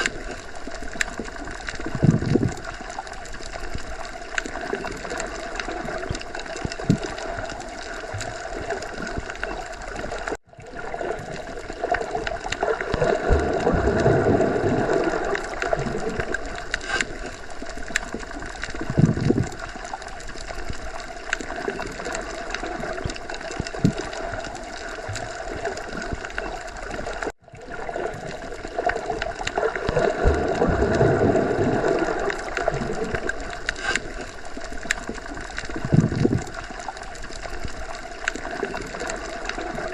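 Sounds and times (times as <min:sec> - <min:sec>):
underwater watery wash: 0:00.0 - 0:39.9.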